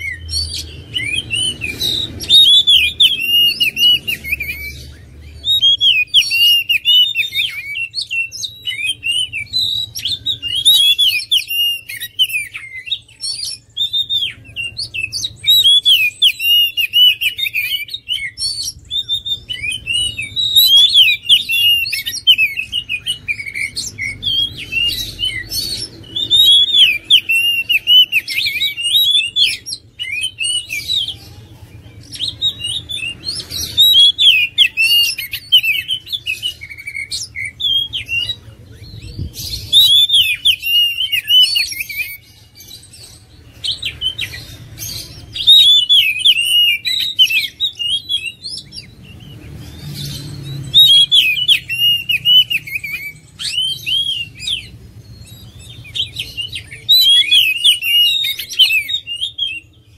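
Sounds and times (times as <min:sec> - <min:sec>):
bird singing whistles and chirps: 0:00.0 - 0:59.9.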